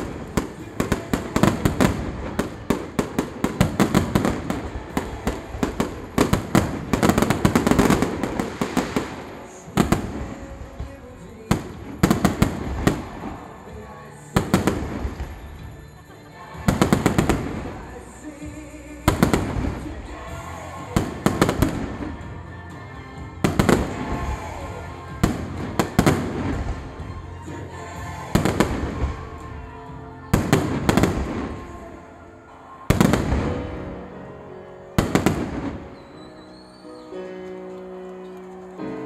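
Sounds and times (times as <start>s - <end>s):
fireworks bursting with bangs: 0.0s - 22.4s, 23.2s - 34.1s, 34.9s - 37.1s
music: 0.0s - 39.0s.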